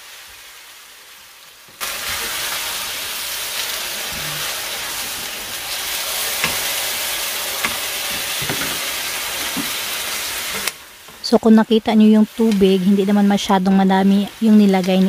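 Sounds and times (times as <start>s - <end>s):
noodles and pork sizzling in wok: 0.0s - 15.0s.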